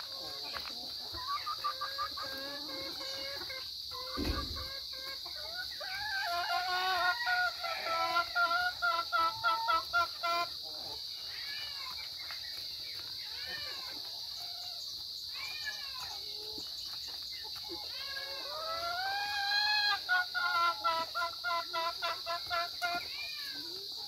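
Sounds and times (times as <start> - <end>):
chickens clucking: 0.0 - 24.0
steady high-pitched hiss: 0.0 - 24.0.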